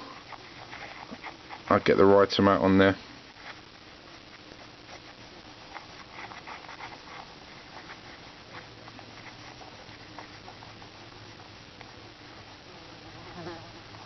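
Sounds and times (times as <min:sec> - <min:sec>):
low steady hiss: 0:00.0 - 0:14.0
soft ticks and rustles of handling: 0:00.0 - 0:14.0.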